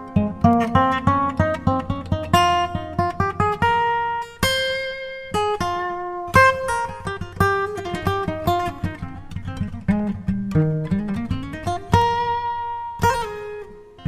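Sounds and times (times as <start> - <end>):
acoustic guitar picking melody: 0.0 - 14.0.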